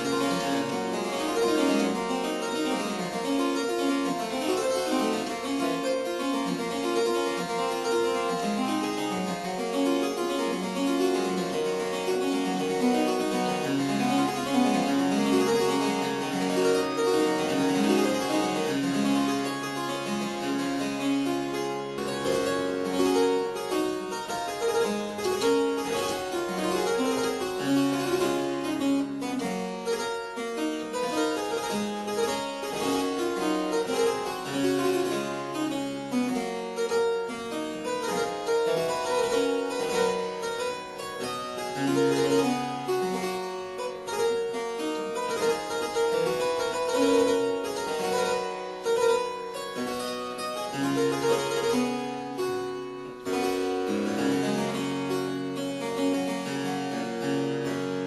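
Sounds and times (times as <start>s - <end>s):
harpsichord playing: 0.0s - 58.0s.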